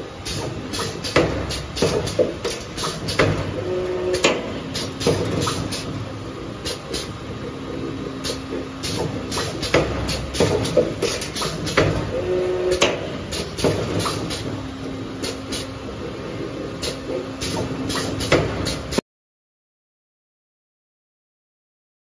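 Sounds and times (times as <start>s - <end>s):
machine clicks and clacks: 0.2s - 19.0s.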